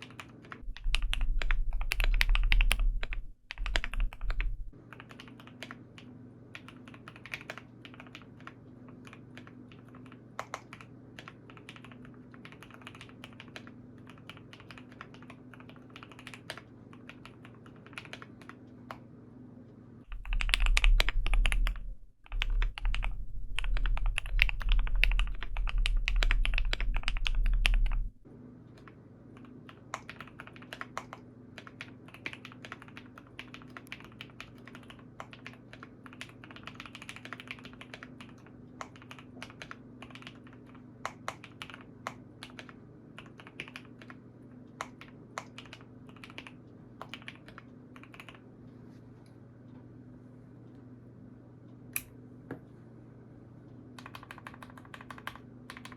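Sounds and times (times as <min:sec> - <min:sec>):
typing on mechanical keyboard: 0:00.0 - 0:19.0, 0:20.1 - 0:28.1, 0:28.8 - 0:48.4, 0:54.0 - 0:55.9
steady low hum: 0:00.0 - 0:55.9.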